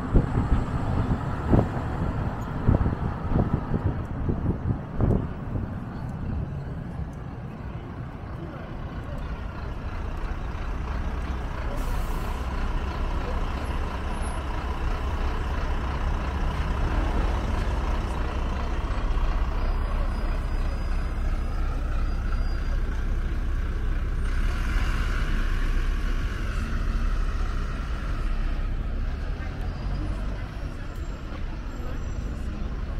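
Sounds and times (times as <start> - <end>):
bus engine rumble: 0.0 - 32.9.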